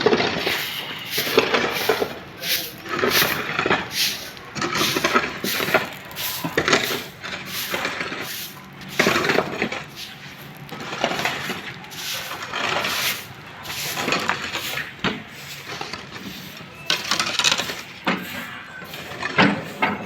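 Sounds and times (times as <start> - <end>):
hand tools scraping on stone: 0.0 - 20.0.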